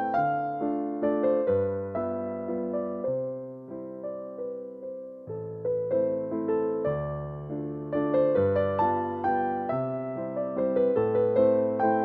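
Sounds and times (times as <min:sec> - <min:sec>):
electric piano melody: 0:00.0 - 0:12.0.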